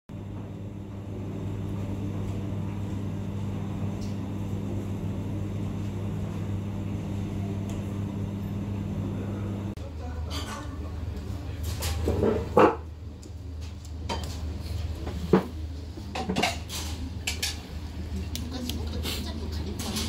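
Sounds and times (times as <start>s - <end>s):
low mechanical hum: 0.1s - 20.0s.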